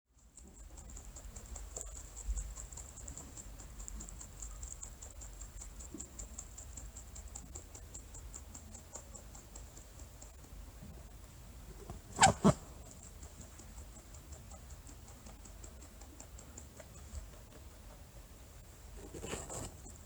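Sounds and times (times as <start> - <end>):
rabbit making soft rapid clicks: 0.1 - 20.0.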